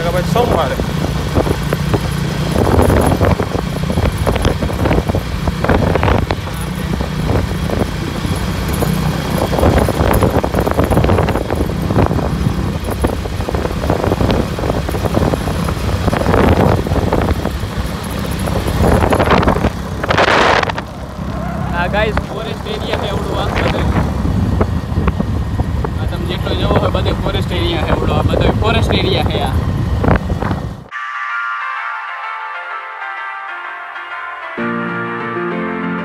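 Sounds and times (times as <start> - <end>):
gusty wind noise: 0.0 - 30.9
motorcycle engine running: 0.0 - 30.9.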